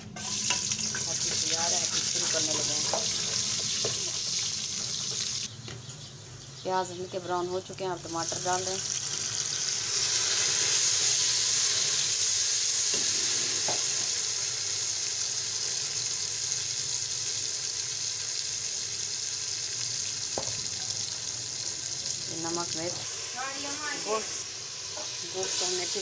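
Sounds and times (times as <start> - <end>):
onions sizzling in hot oil: 0.1 - 5.5, 7.8 - 26.0.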